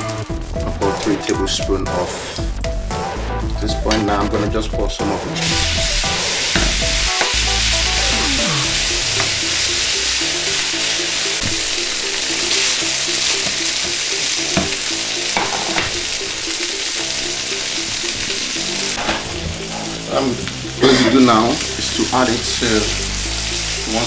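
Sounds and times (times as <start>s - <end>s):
chicken sizzling in hot oil: 0.0s - 3.5s, 5.3s - 24.0s.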